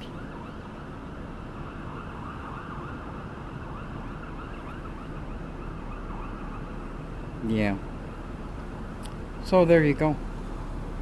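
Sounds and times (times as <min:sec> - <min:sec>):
emergency vehicle siren wailing: 0:00.0 - 0:09.5.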